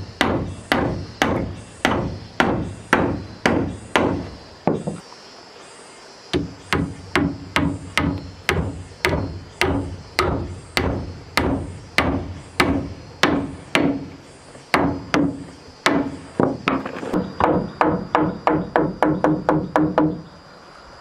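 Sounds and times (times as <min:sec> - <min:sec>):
hammer striking wood: 0:00.2 - 0:05.0, 0:06.4 - 0:14.1, 0:14.7 - 0:20.2.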